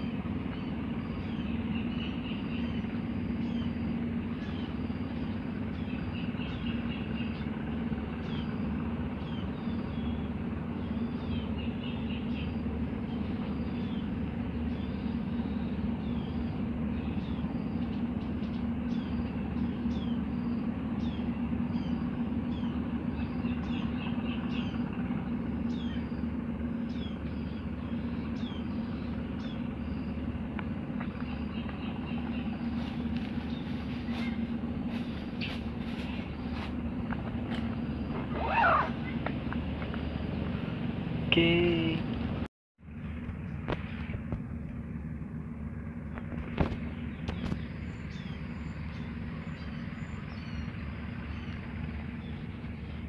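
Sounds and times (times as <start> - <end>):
birds chirping: 0.0 - 42.5, 45.8 - 53.0
steady low hum: 0.0 - 53.0.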